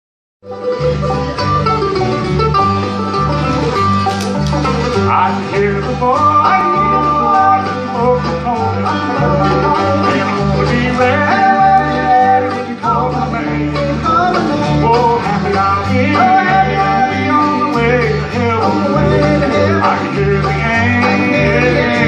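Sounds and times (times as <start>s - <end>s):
bluegrass band playing: 0.4s - 22.0s
upright bass notes: 0.4s - 22.0s.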